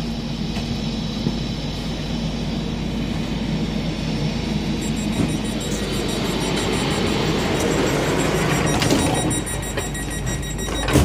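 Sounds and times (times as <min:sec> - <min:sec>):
faint high whine: 0:00.0 - 0:11.0
train running gear rumble: 0:00.0 - 0:11.0.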